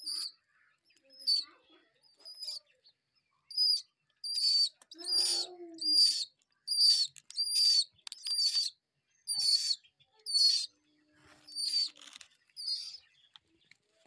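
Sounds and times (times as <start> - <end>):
pigeon squabs peeping: 0.0 - 0.4, 1.1 - 2.6, 3.5 - 13.4.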